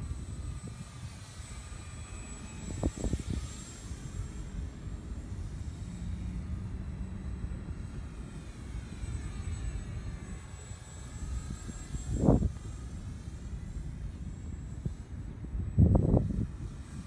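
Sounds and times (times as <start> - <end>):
model plane motor whining: 0.0 - 17.0
wind rumble on microphone: 0.0 - 17.0.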